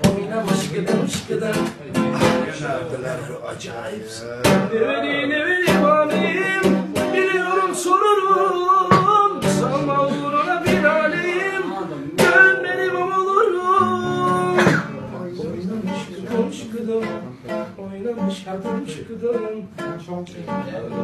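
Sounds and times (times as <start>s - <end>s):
acoustic guitar strumming: 0.0s - 21.0s
man singing: 0.0s - 21.0s.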